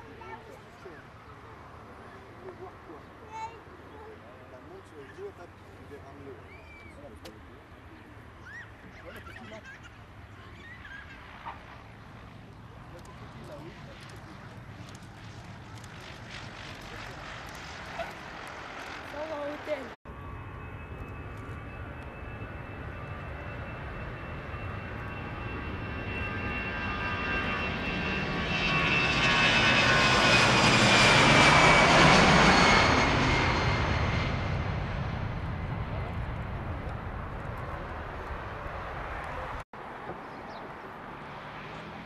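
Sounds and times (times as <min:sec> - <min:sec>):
jet engines on take-off roll: 0:04.7 - 0:42.0.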